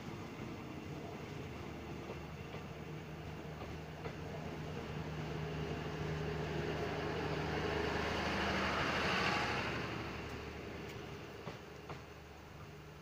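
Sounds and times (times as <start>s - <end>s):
train rolling past: 0.0s - 13.0s.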